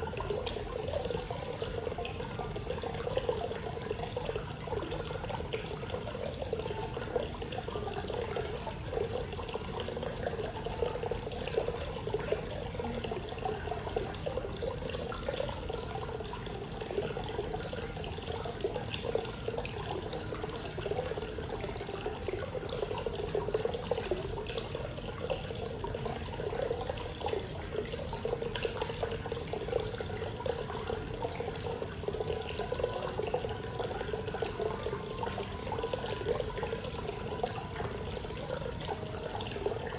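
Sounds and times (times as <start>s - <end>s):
water pouring into a bath: 0.0s - 39.9s.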